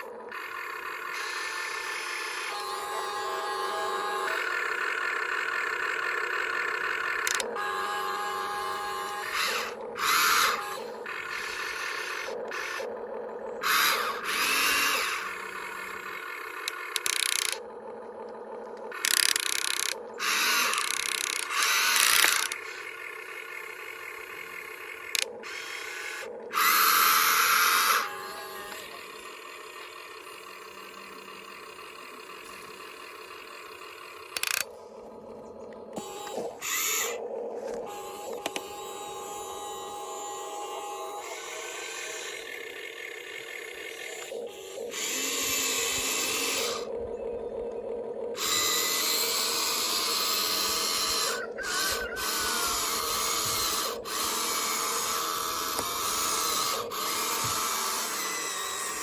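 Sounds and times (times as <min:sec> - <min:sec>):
toy electric motors whirring: 0:00.0 - 0:35.2, 0:35.8 - 0:59.0.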